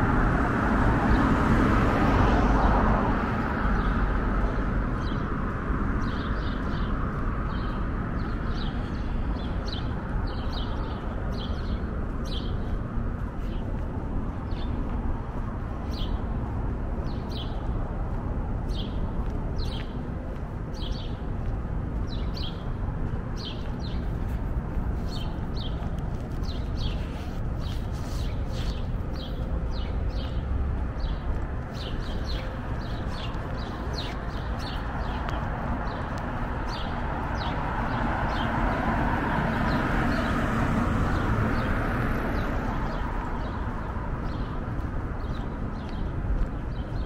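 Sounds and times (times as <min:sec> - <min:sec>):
vehicle passing: 0:00.0 - 0:45.6
city street traffic rumble: 0:00.0 - 0:47.0
footsteps on pavement: 0:00.1 - 0:47.0.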